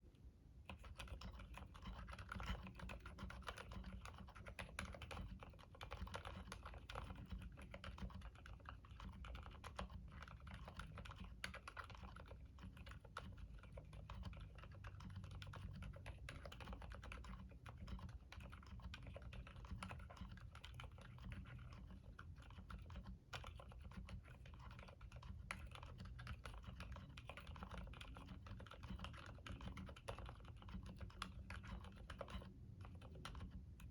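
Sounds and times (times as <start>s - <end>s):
soft mechanical keyboard typing: 0.6s - 33.9s.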